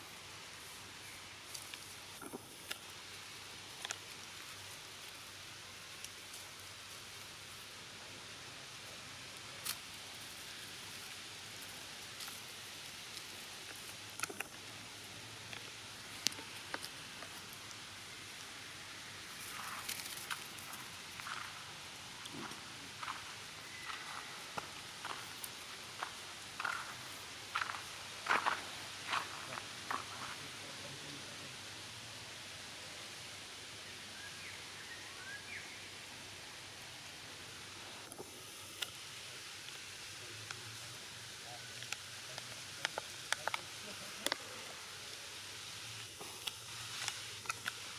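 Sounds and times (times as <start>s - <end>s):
steady outdoor hiss: 0.0s - 47.9s.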